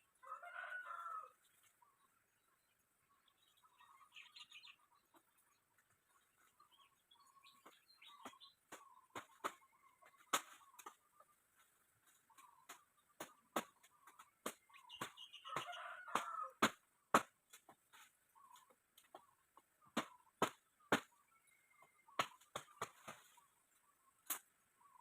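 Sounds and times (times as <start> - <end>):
bird chirps: 1.5 - 16.4, 18.0 - 25.0.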